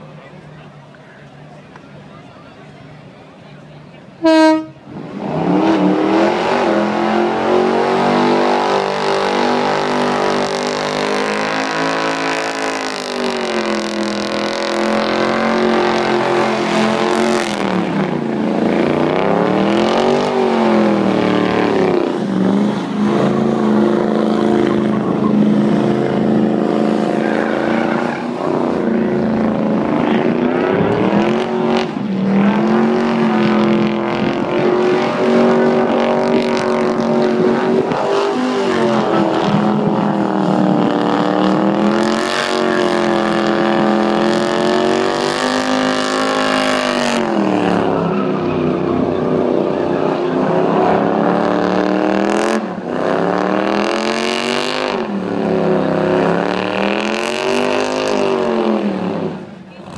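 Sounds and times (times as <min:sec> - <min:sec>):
truck engine revving high: 0:02.8 - 0:59.9.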